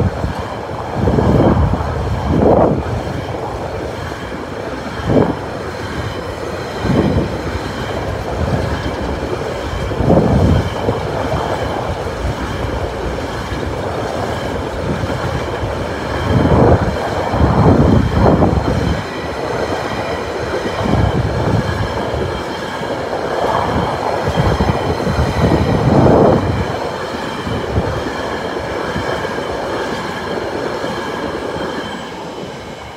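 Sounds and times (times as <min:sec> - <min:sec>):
freight train wheels rumbling: 0:00.0 - 0:32.9.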